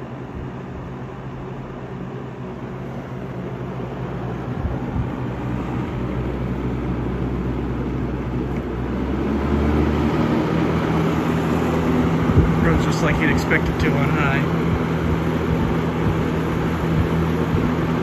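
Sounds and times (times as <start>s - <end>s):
box fan motor hum and whoosh: 0.0s - 18.0s.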